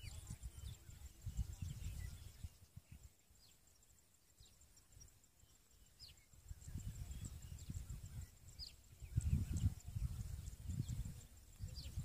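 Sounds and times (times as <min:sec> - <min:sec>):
wind rumble on microphone: 0:00.0 - 0:03.5, 0:05.8 - 0:12.0
insect high pulsing call: 0:00.0 - 0:12.0.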